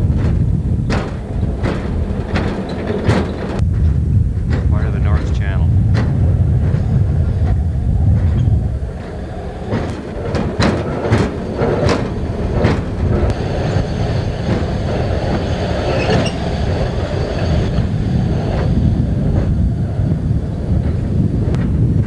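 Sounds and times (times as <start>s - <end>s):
truck rumbling on rails: 0.0s - 22.0s
wheels clicking over rail joints: 0.0s - 22.0s.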